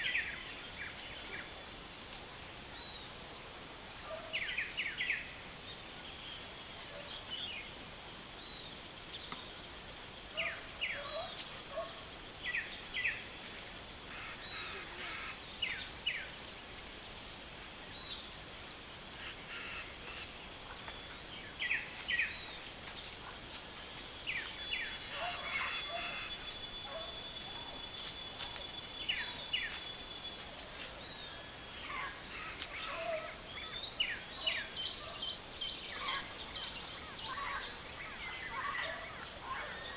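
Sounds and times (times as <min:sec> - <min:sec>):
insect drone: 0:00.0 - 0:39.9
small birds chirping: 0:04.0 - 0:39.9.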